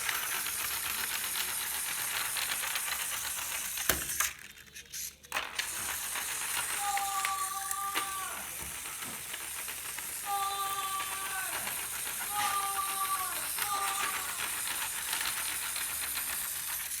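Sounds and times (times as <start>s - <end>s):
toy robot clicking rattle: 0.0s - 17.0s.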